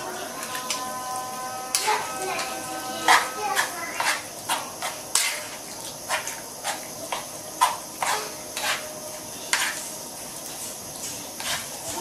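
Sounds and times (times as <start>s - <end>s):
metal spoon scraping a frying pan: 0.0s - 9.9s, 11.4s - 12.0s.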